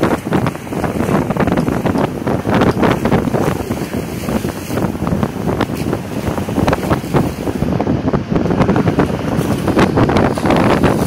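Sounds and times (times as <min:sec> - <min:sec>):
water rushing past hulls: 0:00.0 - 0:11.0
wind buffeting microphone: 0:00.0 - 0:11.0.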